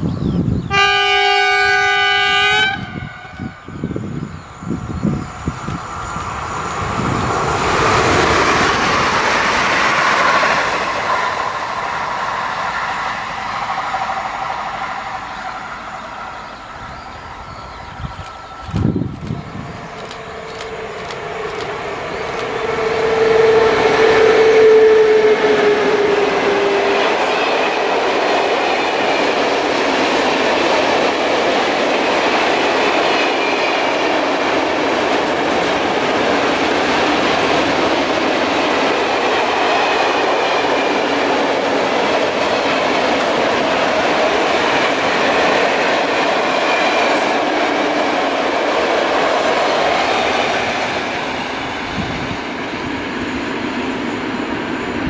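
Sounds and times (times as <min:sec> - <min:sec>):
electric locomotive whine: 0:00.0 - 0:55.0.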